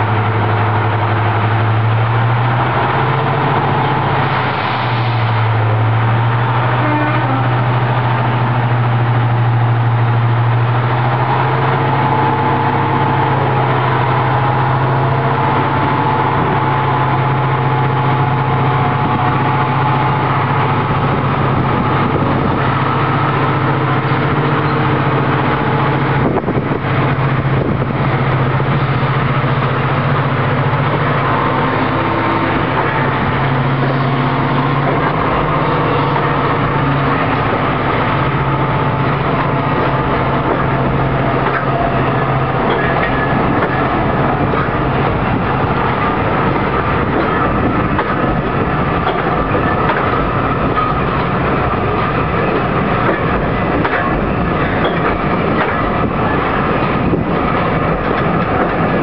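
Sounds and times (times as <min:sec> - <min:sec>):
high engine whine: 0:00.0 - 0:59.0
locomotive engines droning: 0:00.0 - 0:59.0.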